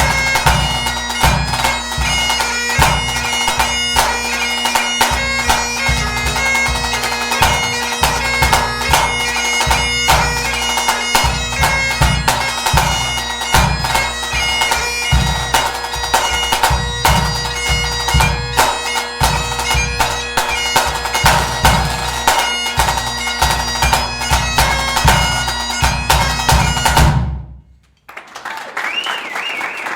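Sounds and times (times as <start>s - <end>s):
bagpipe playing a tune: 0.0s - 27.2s.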